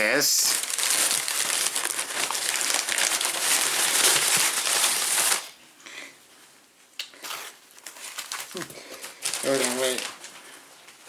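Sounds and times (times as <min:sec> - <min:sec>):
packing material rustling: 0:00.4 - 0:05.6, 0:07.2 - 0:11.0.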